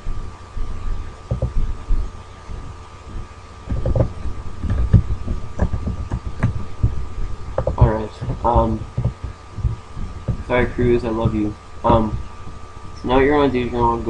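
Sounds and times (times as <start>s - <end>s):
faint electrical whine: 0.0s - 14.0s.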